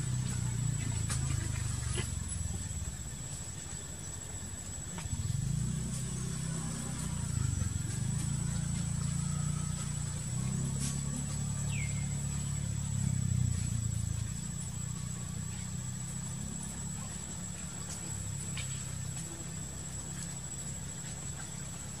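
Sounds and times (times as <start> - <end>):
idling vehicle engine hum: 0.0 - 22.0.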